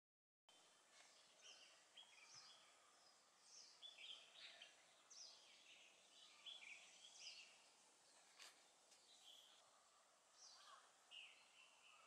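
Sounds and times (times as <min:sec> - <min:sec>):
small birds chirping: 0:00.5 - 0:12.0
soft outdoor hiss: 0:00.5 - 0:12.0.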